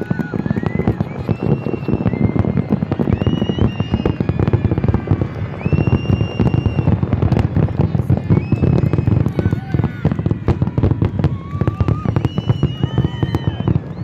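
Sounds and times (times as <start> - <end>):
fireworks bangs and crackles: 0.0 - 14.0
fireworks whistles: 0.0 - 14.0.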